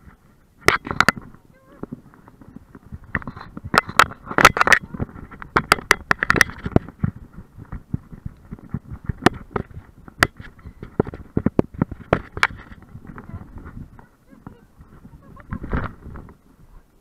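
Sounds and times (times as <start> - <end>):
camera rattling in mount: 0.6 - 13.9, 15.4 - 16.4.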